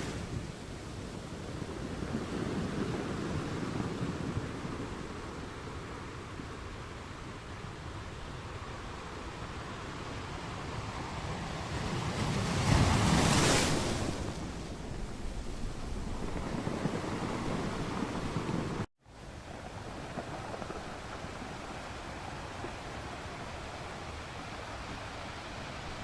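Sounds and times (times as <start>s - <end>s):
sea waves washing on shore: 0.0s - 26.0s.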